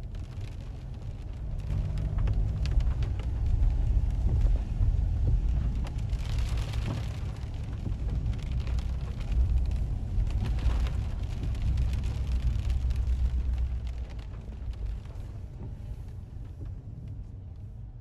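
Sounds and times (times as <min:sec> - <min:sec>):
car engine and tyres on wet road: 0:00.0 - 0:18.0
raindrops ticking on windscreen: 0:00.0 - 0:18.0.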